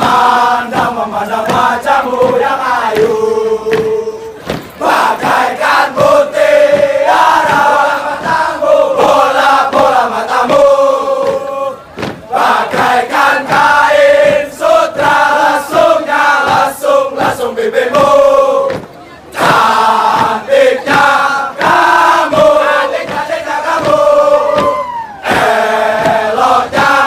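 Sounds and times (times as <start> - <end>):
group chanting in unison: 0.0 - 27.0.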